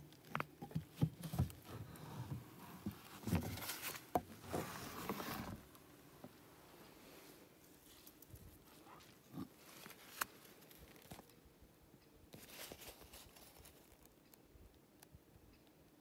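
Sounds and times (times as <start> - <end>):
faint handling clicks and rustles: 0.0 - 11.4, 12.3 - 15.7.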